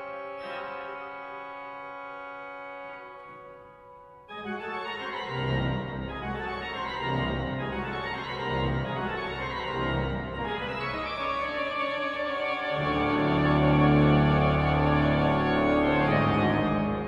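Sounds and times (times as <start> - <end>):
pipe organ playing: 0.0 - 3.7, 4.3 - 17.0.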